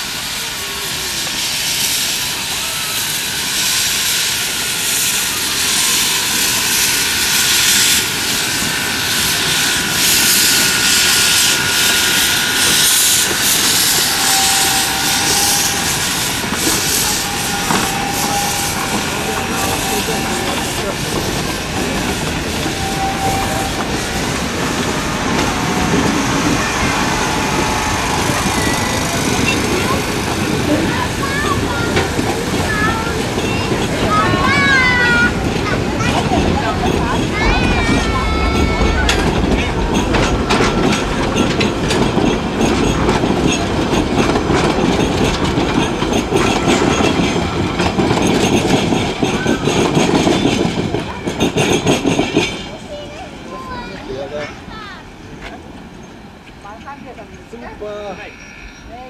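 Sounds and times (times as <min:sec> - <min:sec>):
escaping steam: 0:00.0 - 0:59.0
train wheels on rails: 0:00.0 - 0:59.0.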